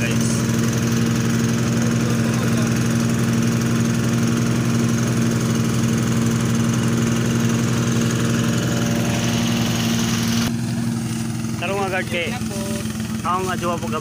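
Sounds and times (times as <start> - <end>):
thresher engine humming: 0.0 - 14.0.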